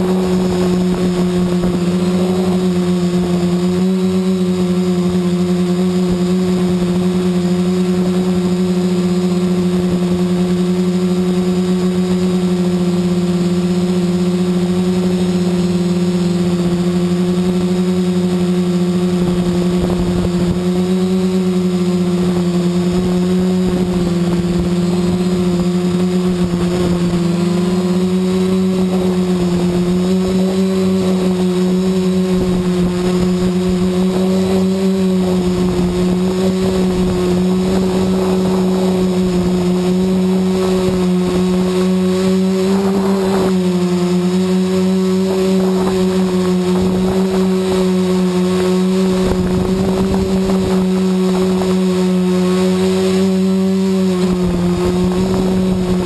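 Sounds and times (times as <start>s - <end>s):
quadcopter buzzing hum: 0.0s - 56.0s.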